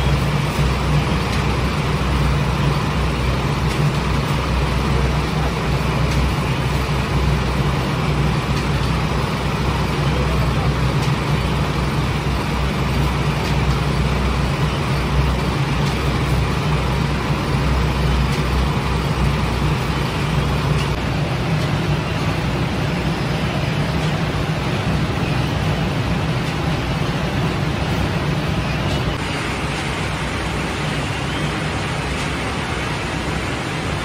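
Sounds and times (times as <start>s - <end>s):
broad rushing noise: 0.0s - 34.0s
machinery low hum: 0.0s - 34.0s.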